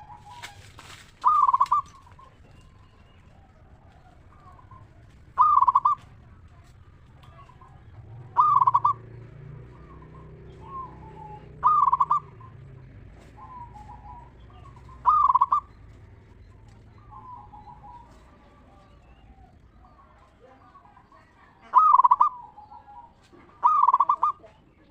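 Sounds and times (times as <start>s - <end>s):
doves rolling coos: 0.0s - 24.9s
soft dove cooing: 0.0s - 24.9s.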